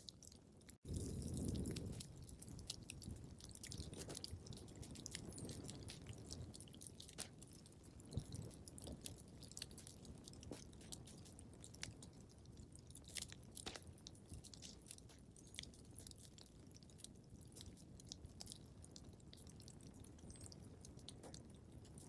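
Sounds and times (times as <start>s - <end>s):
wood fire crackling: 0.0s - 22.0s
low rumble of flames: 0.3s - 22.0s.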